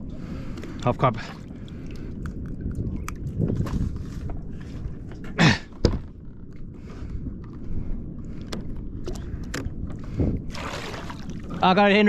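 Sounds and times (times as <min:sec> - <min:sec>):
water rumbling: 0:00.0 - 0:12.0
wind noise: 0:00.0 - 0:12.0.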